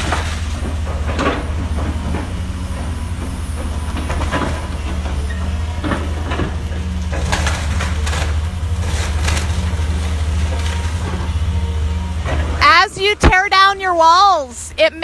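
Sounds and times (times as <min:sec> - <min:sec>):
wood cracking and crunching: 0:00.0 - 0:13.8
low engine hum: 0:00.0 - 0:15.0.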